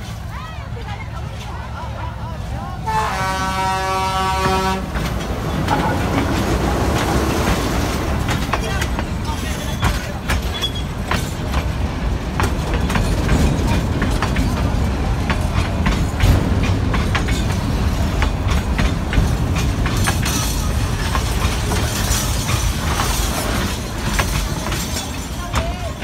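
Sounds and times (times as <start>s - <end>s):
train carriages rumbling past: 0.0s - 26.0s
wheels clicking on track: 4.2s - 26.0s.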